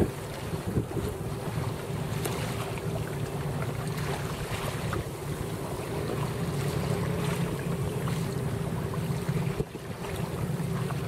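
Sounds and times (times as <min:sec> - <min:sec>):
water splashing along hull: 0:00.0 - 0:11.0
wind buffeting microphone: 0:00.0 - 0:11.0.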